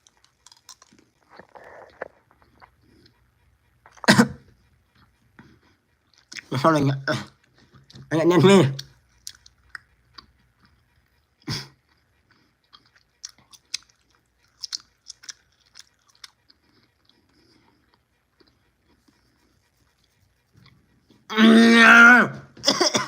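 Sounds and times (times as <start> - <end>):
person chewing: 0.0 - 4.1, 4.9 - 6.5, 7.2 - 21.3.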